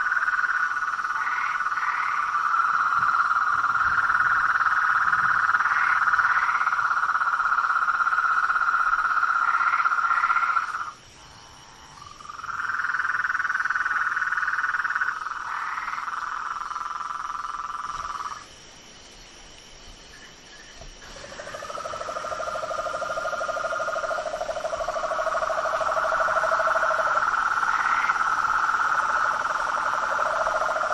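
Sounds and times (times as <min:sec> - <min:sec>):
frogs trilling: 0:00.0 - 0:18.9, 0:19.9 - 0:30.9
high insect drone: 0:00.0 - 0:30.9.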